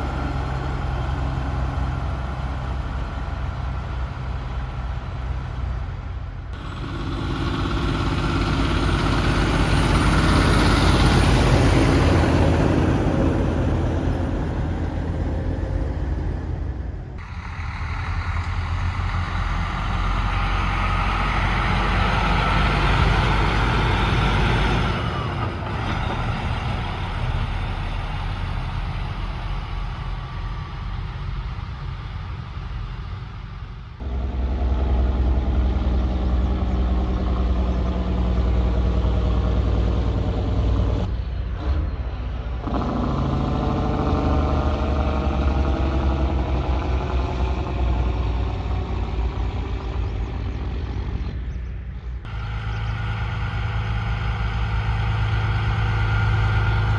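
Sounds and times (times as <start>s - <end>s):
diesel truck engines: 0.0s - 56.9s.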